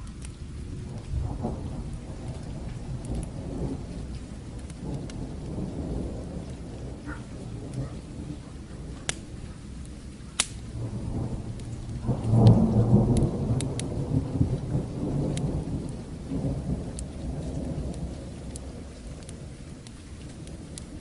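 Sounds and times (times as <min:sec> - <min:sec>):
distant thunder roll: 0:00.0 - 0:21.0
fire crackling pops: 0:00.0 - 0:21.0
steady rain: 0:00.0 - 0:21.0.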